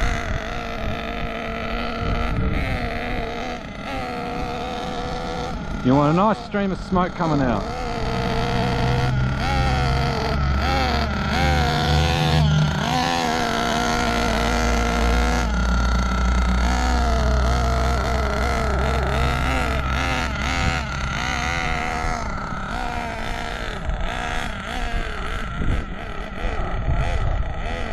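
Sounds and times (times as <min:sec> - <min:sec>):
small nitro engine running: 0:00.0 - 0:27.9.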